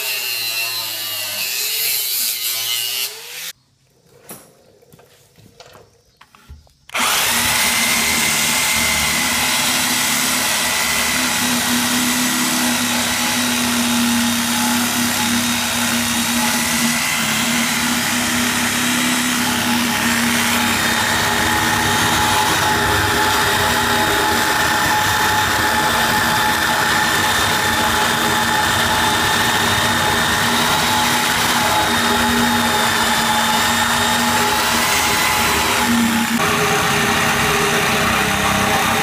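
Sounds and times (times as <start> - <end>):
shop vacuum motor whine: 6.9 - 39.0.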